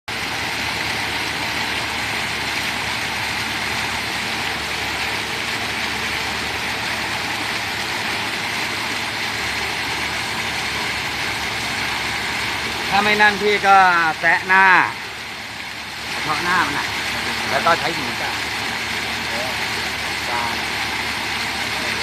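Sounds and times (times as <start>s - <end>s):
water pouring down waterfall: 0.1s - 22.0s.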